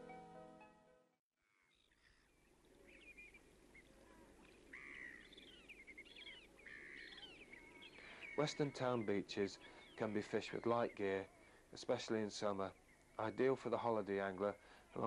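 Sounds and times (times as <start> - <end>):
birds calling faintly: 1.4 - 15.0.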